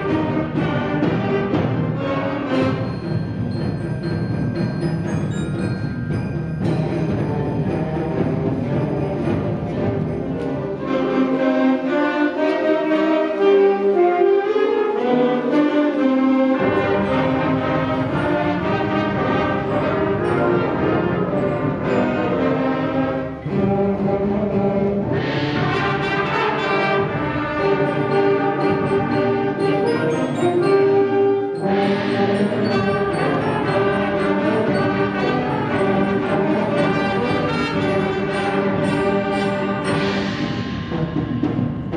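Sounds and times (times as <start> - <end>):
concert band playing: 0.0 - 11.4, 16.6 - 41.9
brass instruments: 0.0 - 41.9.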